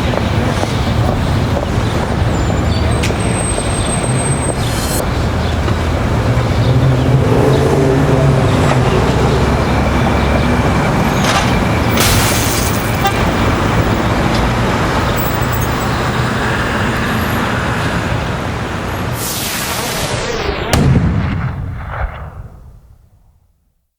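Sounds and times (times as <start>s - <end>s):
road traffic rumble: 0.0s - 21.9s.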